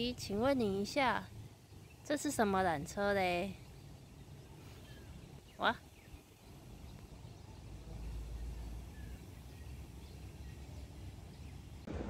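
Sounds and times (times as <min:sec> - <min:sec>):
low outdoor rumble: 0:00.0 - 0:12.0
faint bird chirps: 0:01.6 - 0:11.9.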